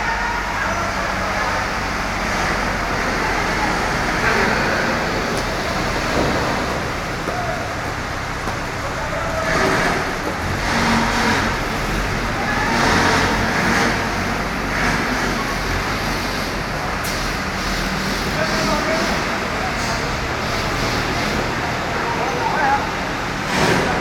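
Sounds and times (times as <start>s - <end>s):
crane diesel engine running: 0.0s - 24.0s.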